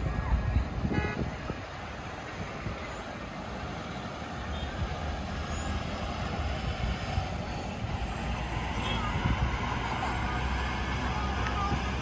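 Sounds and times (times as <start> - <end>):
outdoor background din: 0.0 - 12.0.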